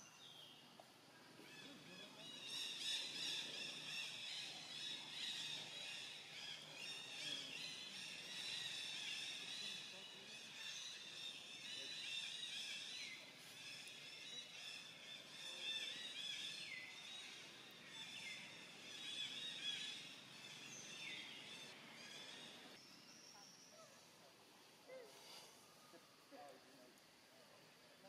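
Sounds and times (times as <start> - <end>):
birds chirping: 1.4 - 24.1.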